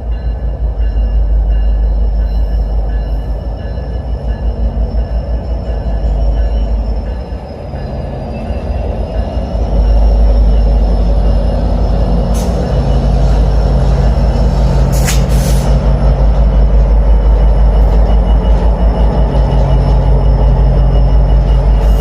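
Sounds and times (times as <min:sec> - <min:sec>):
high-pitched whine: 0:00.0 - 0:22.0
train rumbling on rails: 0:00.0 - 0:22.0.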